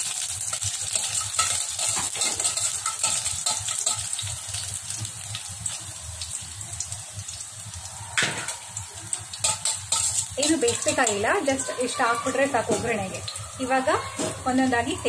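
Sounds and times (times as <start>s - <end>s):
metal spoon stirring in pan: 0.0s - 5.9s, 8.2s - 15.0s
seeds sizzling in hot oil: 0.0s - 15.0s.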